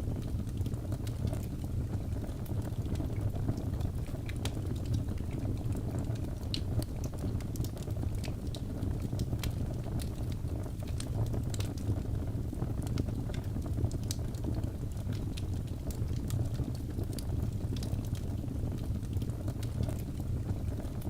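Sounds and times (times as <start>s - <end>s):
logs burning with crackles: 0.0s - 21.0s.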